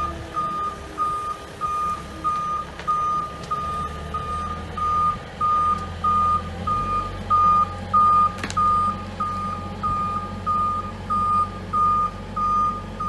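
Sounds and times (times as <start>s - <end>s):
diesel engine running: 0.0s - 13.0s
reversing alarm beeping: 0.0s - 13.0s.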